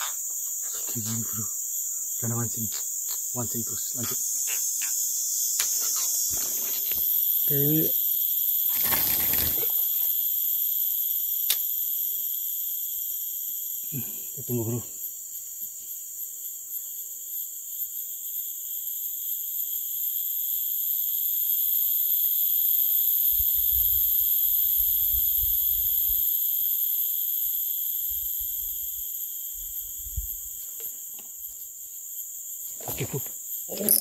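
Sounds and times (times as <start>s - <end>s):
insect chorus: 0.0s - 34.0s.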